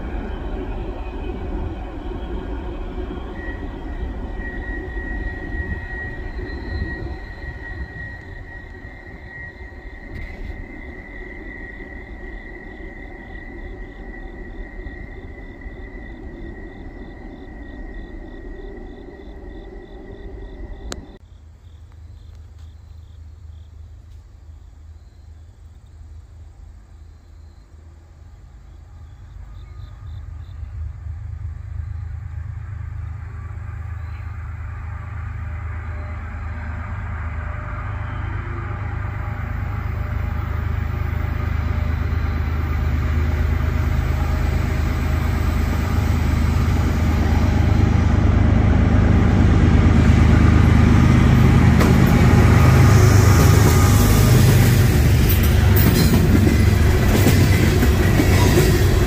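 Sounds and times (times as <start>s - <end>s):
train wheels on rails: 0.0s - 21.2s, 28.9s - 59.0s
diesel locomotive engine rumble: 0.0s - 22.6s, 23.2s - 59.0s.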